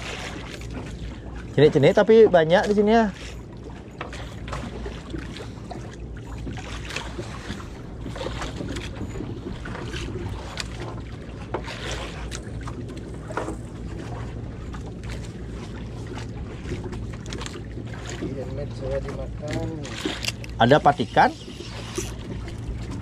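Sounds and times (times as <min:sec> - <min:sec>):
water moving around hull: 0:00.0 - 0:23.0
steady low rumble: 0:03.2 - 0:23.0.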